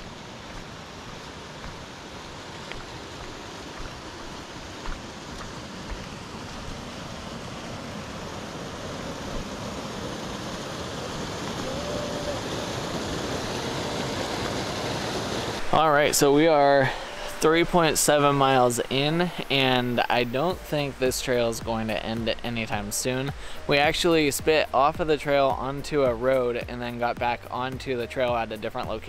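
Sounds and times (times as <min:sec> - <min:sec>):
rushing water: 0:00.0 - 0:29.0.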